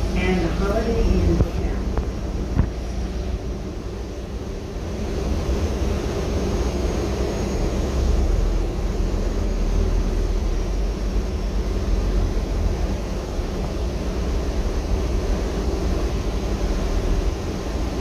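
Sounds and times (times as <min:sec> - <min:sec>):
bus drivetrain and road rumble: 0:00.0 - 0:18.0
faint high whine: 0:00.0 - 0:18.0.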